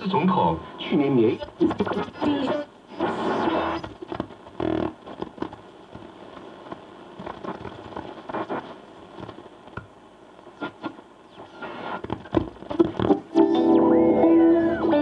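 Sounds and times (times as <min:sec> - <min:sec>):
radio static crackling: 0:00.0 - 0:15.0.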